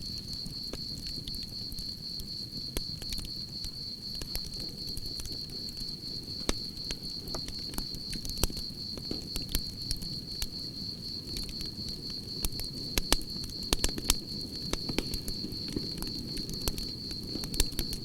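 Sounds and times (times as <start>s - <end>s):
campfire crackling and popping: 0.0s - 18.0s
crickets chirping: 0.0s - 18.0s.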